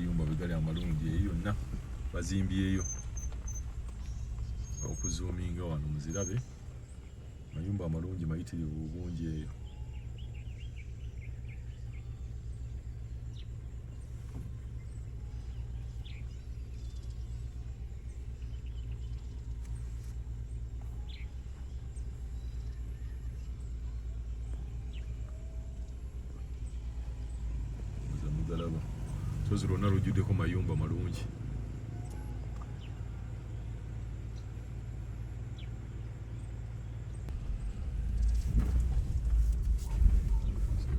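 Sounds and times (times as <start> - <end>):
birds chirping: 0.0 - 40.9
steady low rumble: 0.0 - 40.9.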